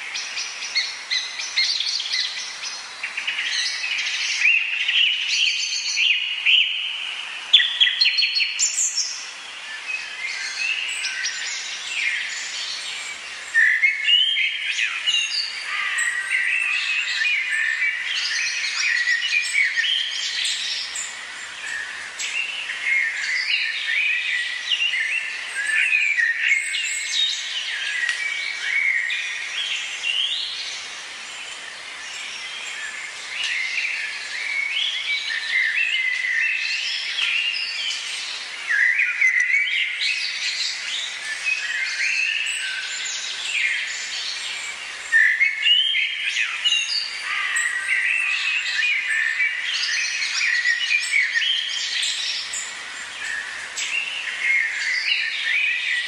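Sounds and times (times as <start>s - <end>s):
chorus of birds singing: 0.0s - 56.0s.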